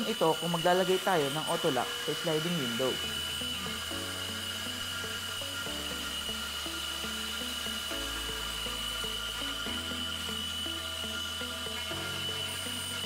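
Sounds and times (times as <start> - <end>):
background music: 0.0 - 13.0
end mill cutting aluminium: 0.0 - 13.0.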